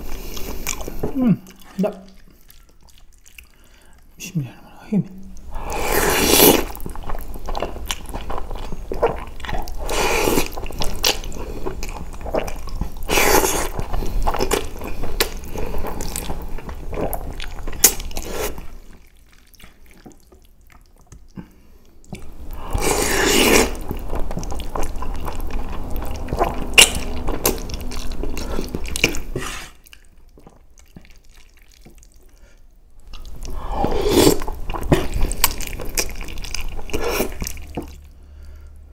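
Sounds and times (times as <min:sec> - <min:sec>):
wet chewing: 0:00.0 - 0:04.1, 0:05.3 - 0:38.1
slurping spaghetti: 0:05.4 - 0:32.6, 0:33.2 - 0:38.1.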